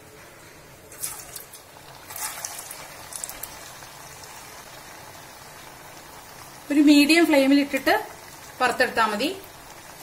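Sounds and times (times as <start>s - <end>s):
food deep-frying in oil: 0.7s - 10.0s
bursts of sizzling: 0.9s - 10.0s.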